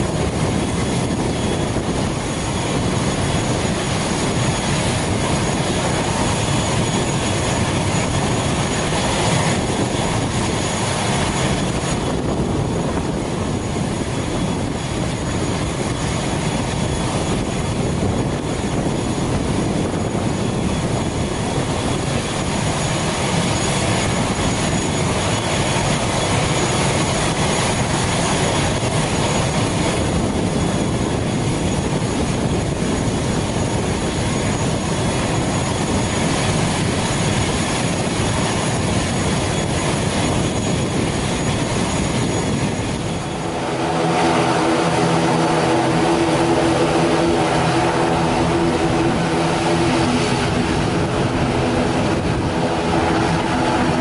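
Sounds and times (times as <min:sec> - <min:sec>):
turboprop engine running: 0:00.0 - 0:54.0.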